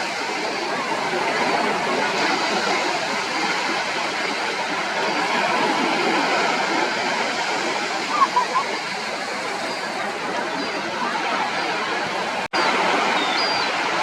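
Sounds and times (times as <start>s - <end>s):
surf washing onto beach: 0.0s - 14.0s.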